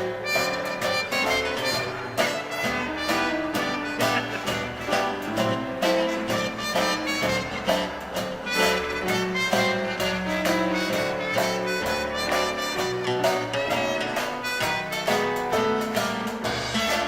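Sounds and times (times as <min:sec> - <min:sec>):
dance orchestra playing swing: 0:00.0 - 0:17.0.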